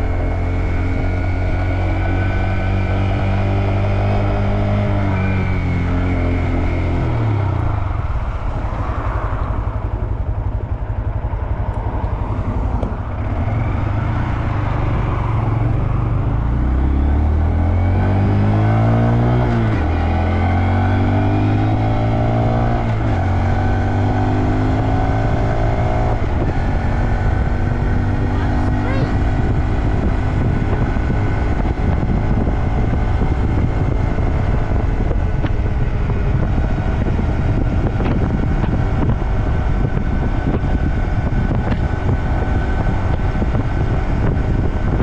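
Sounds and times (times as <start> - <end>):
motorcycle engine: 0.0 - 45.0.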